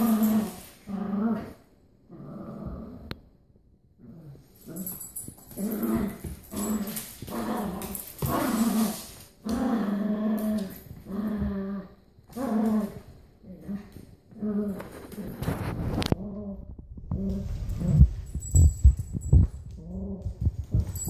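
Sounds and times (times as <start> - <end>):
dogs growling in play: 0.0 - 3.3, 4.0 - 18.6, 19.7 - 21.0.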